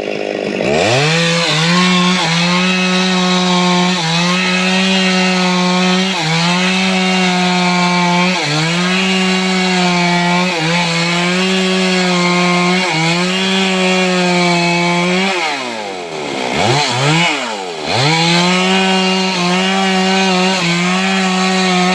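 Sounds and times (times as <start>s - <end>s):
chainsaw running at high revs: 0.0s - 21.9s.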